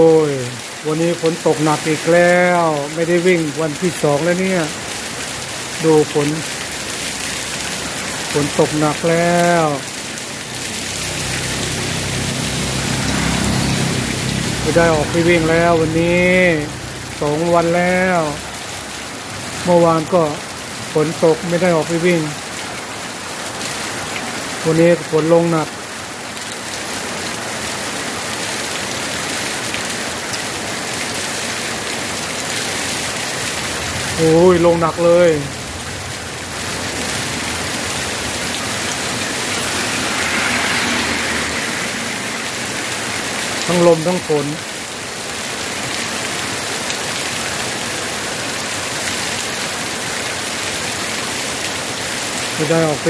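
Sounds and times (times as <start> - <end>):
heavy rain pouring: 0.0 - 53.0
wind: 0.0 - 53.0
rain drop ticks: 0.2 - 41.7, 45.5 - 51.8.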